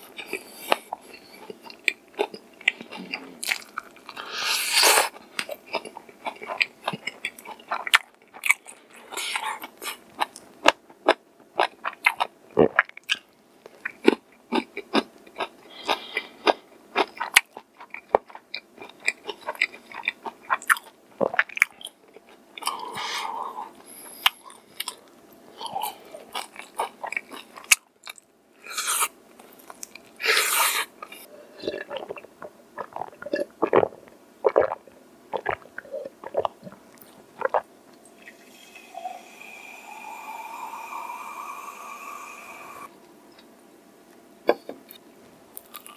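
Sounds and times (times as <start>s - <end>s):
crunching and chewing fried chicken: 0.0s - 23.1s, 24.2s - 37.6s, 44.9s - 45.9s.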